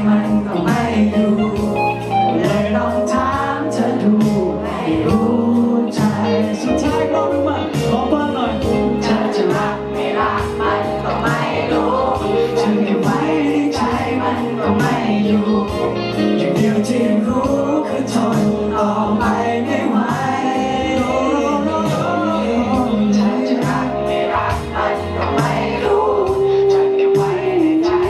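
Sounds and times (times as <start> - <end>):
man singing pop ballad: 0.0 - 28.0
musical accompaniment: 0.0 - 28.0.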